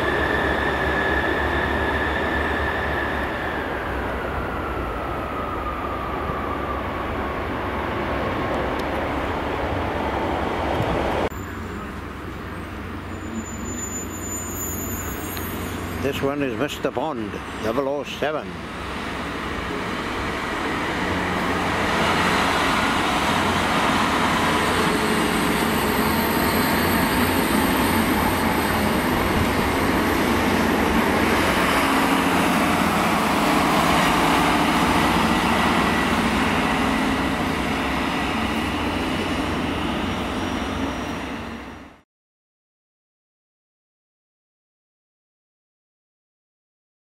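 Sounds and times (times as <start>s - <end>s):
train passing through station: 0.0s - 42.0s.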